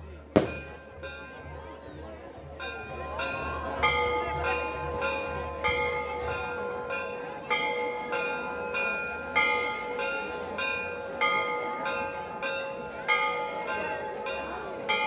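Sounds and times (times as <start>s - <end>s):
steady hum from bells: 2.5s - 15.0s
church bells ringing: 2.6s - 15.0s.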